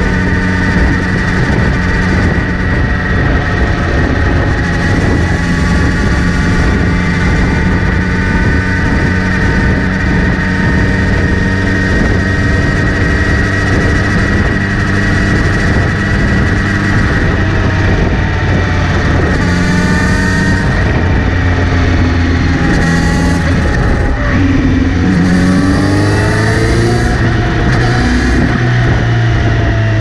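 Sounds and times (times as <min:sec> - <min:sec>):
high whirring whine: 0:00.0 - 0:30.0
motorcycle engine running: 0:00.0 - 0:30.0.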